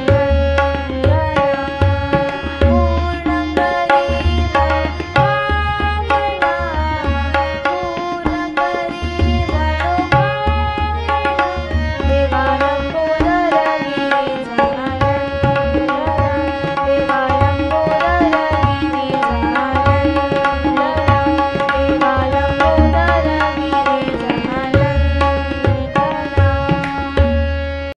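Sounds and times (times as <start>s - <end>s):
tabla rhythm: 0.0s - 28.0s.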